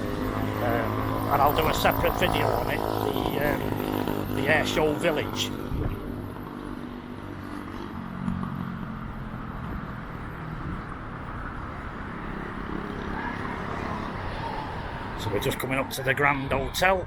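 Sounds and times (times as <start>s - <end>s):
steady traffic noise: 0.0s - 17.0s
wind rumbling on microphone: 0.0s - 17.0s.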